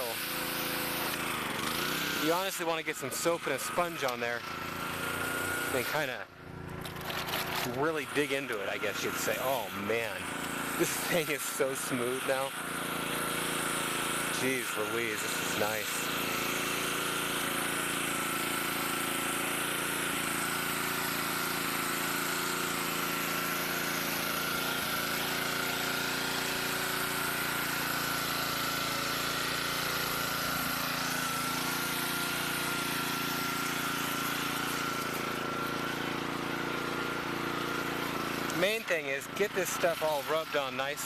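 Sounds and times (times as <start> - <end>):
pressure washer engine whine: 0.0 - 41.0.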